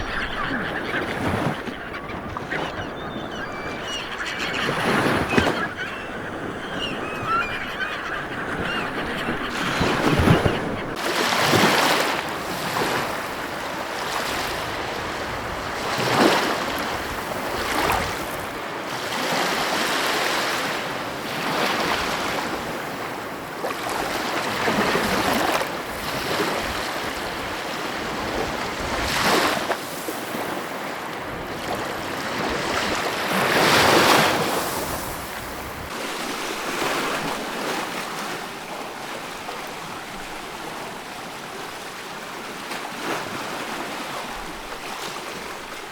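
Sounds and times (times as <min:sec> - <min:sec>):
ocean waves breaking: 0:00.0 - 0:45.9.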